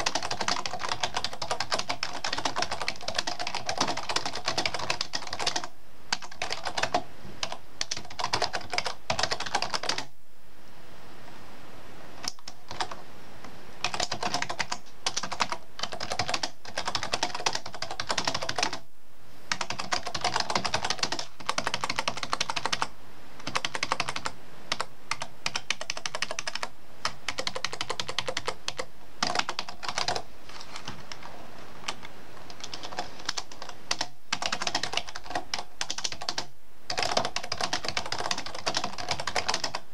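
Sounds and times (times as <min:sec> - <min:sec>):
keyboard typing: 0:00.0 - 0:10.1, 0:12.2 - 0:13.0, 0:13.8 - 0:18.8, 0:19.5 - 0:39.9.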